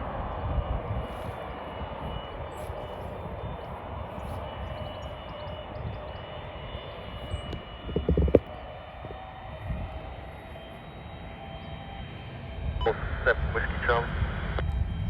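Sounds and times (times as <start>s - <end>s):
distant jet engines running: 0.0s - 15.0s.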